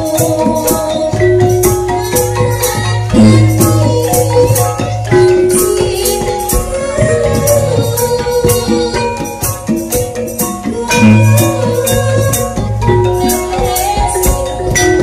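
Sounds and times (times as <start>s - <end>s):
drums: 0.0s - 15.0s
gamelan metal keys struck: 0.0s - 15.0s.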